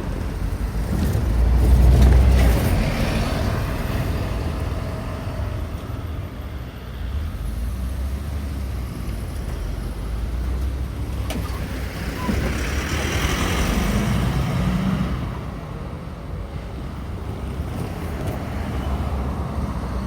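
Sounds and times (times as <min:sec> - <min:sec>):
engines rumbling: 0:00.0 - 0:20.0.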